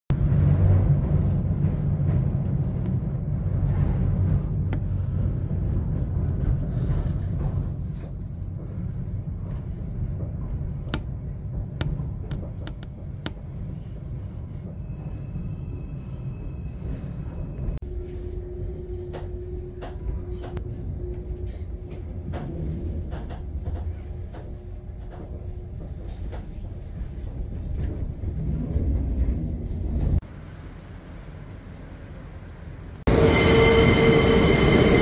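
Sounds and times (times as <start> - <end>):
train rumbling over bridge: 0.1 - 35.0.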